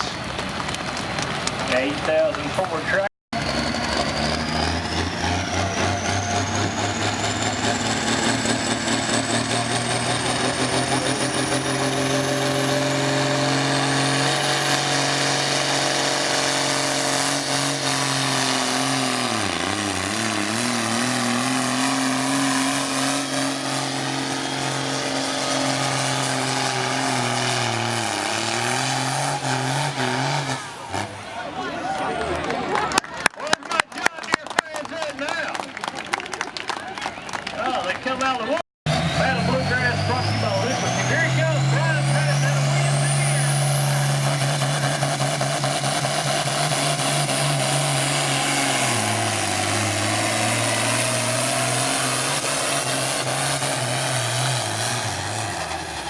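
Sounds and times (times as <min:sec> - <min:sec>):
truck engine at full throttle: 0:00.0 - 0:56.0.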